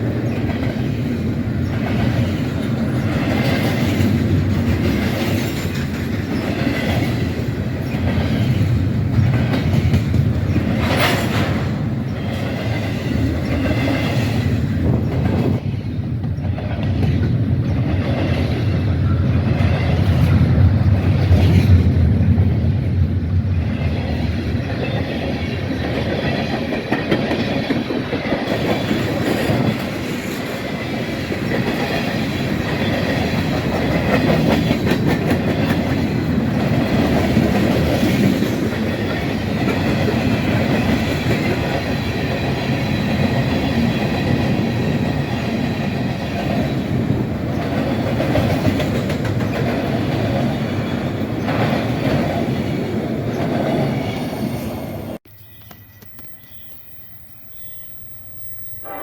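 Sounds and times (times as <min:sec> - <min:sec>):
wheels clacking over rail joints: 0:00.0 - 0:22.2, 0:23.4 - 0:54.2
freight train wheels rumbling: 0:00.0 - 0:56.5.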